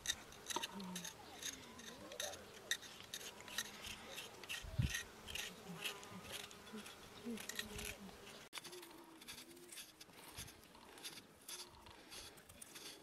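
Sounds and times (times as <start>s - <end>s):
knives scraping potatoes: 0.0s - 13.0s.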